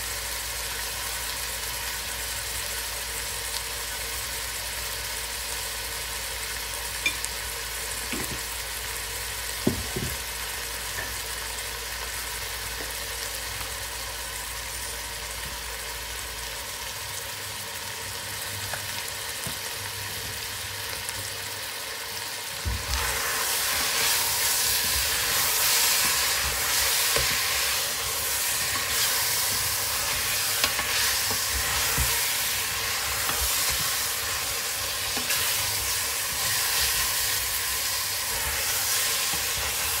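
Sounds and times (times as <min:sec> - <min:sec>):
meat and onions sizzling in oil: 0:00.0 - 0:40.0.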